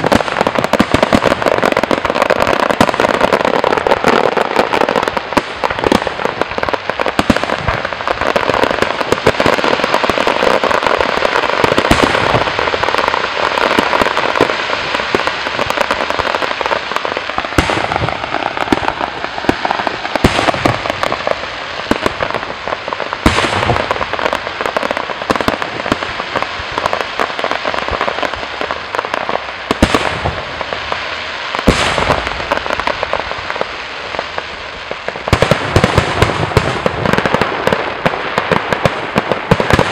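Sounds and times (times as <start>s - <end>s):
fireworks crackling and popping: 0.0s - 39.9s
loud fireworks bangs: 0.0s - 39.9s.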